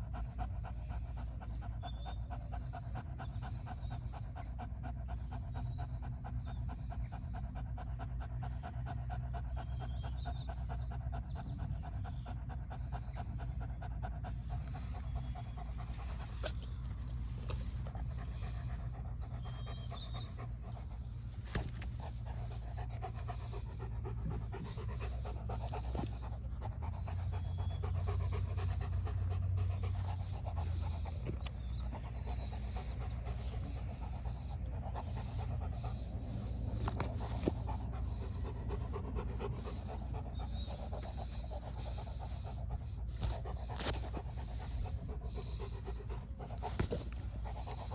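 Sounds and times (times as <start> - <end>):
dog panting: 0.0 - 47.9.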